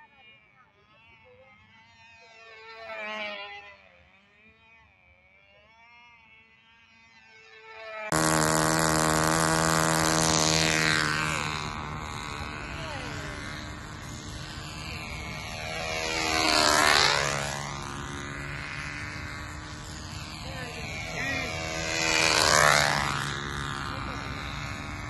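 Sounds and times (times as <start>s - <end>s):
model airplane engine passing: 0.0s - 25.0s.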